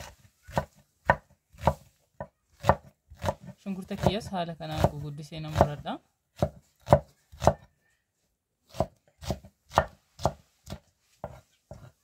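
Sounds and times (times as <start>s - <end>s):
knife chopping on cutting board: 0.0s - 5.8s, 6.4s - 7.7s, 8.7s - 12.0s.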